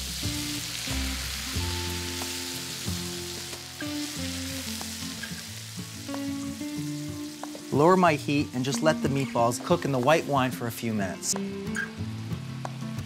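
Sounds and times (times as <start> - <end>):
meatballs sizzling in oil: 0.0 - 10.4, 11.3 - 13.0
instrumental background music: 0.0 - 13.0.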